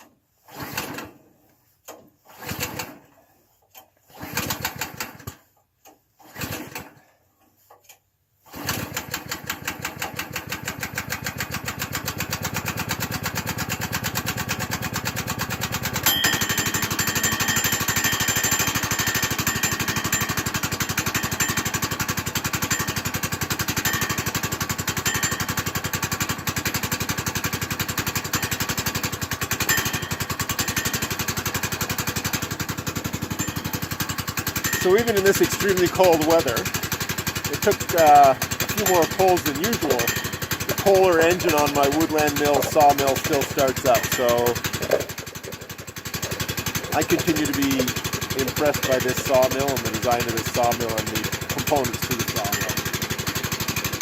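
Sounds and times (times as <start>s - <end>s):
starter cord pulls: 0.0s - 1.2s, 1.8s - 54.0s
gas engine running: 2.2s - 3.2s, 4.1s - 5.4s, 8.5s - 54.0s.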